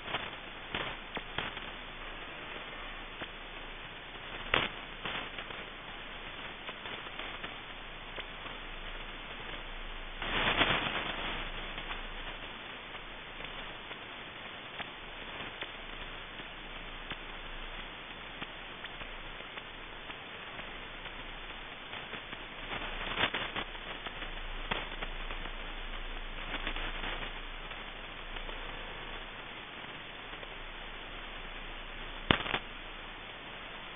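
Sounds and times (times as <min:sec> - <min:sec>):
radio crackles: 0:00.0 - 0:33.9
radio static hiss: 0:00.0 - 0:33.9.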